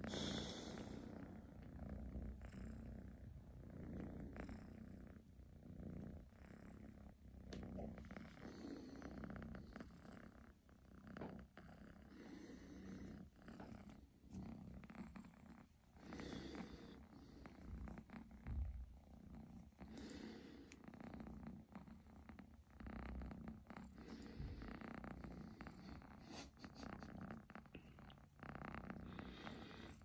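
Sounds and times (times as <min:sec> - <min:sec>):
kitten purring: 0:00.0 - 0:30.0.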